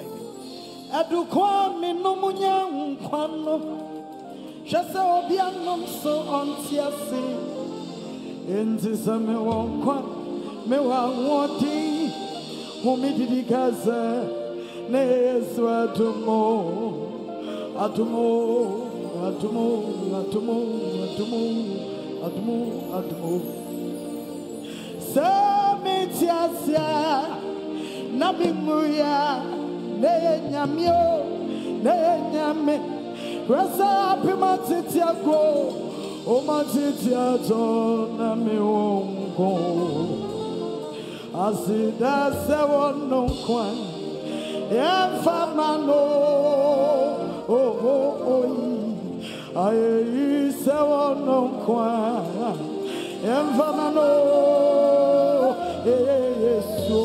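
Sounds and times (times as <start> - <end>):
sustained musical accompaniment: 0.0 - 57.0
woman singing gospel: 0.0 - 57.0.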